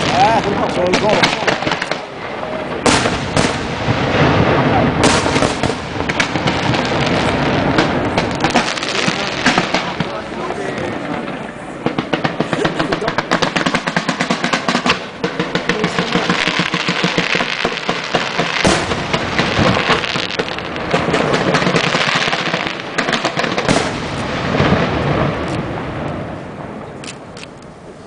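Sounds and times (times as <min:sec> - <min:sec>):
rapid firework reports: 0:00.0 - 0:27.4
dense firework crackling: 0:00.0 - 0:28.0
loud firework shell bursts: 0:02.8 - 0:26.3.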